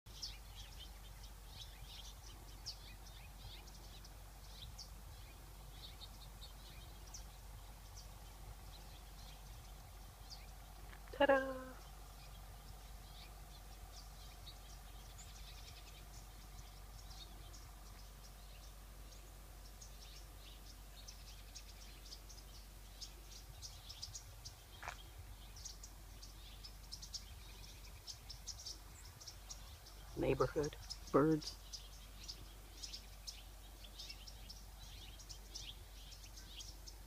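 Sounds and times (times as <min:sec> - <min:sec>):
songbirds chirping faintly: 0:00.0 - 0:37.0.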